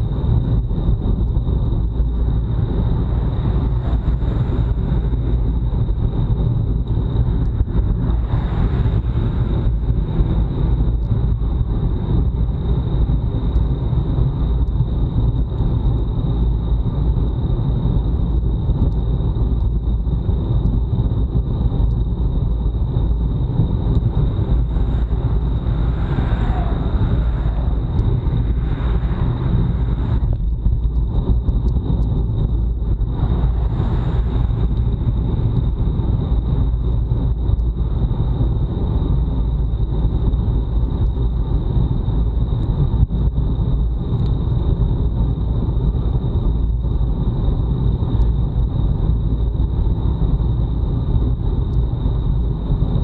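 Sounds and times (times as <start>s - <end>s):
high whine: 0.0s - 53.0s
wind rushing over microphone: 0.0s - 53.0s.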